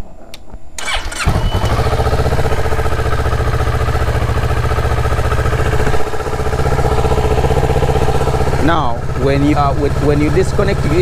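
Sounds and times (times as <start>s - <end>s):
motorcycle engine starting and idling: 0.8s - 11.0s.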